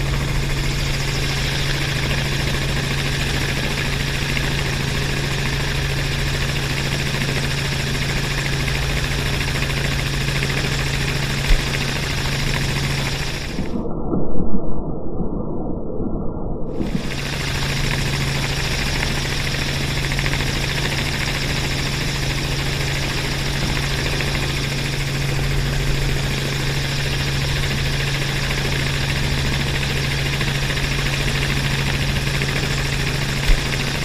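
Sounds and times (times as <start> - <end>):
helicopter engine and rotors: 0.0 - 14.0, 16.6 - 34.0.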